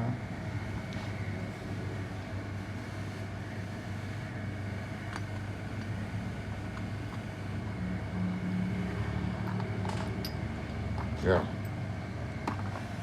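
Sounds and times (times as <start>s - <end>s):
engine idling with low hum: 0.0s - 13.0s.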